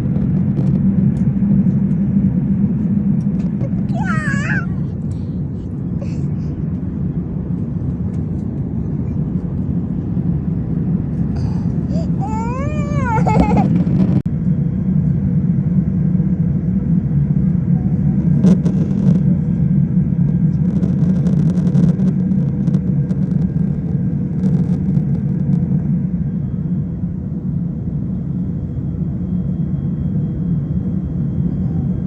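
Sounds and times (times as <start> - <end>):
airliner rumbling: 0.0 - 32.0.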